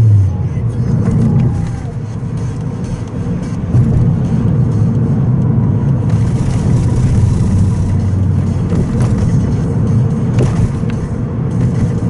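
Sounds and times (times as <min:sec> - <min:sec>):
car exhaust drone: 0:00.0 - 0:12.0.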